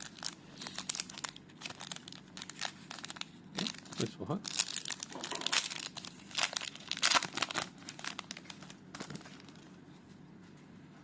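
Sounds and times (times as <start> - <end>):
wrapper tearing and crinkling: 0.0 - 9.7.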